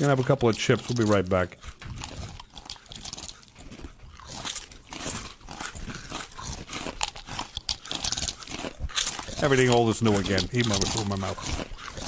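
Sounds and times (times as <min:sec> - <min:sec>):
crunching and rustling clicks: 0:00.0 - 0:12.0.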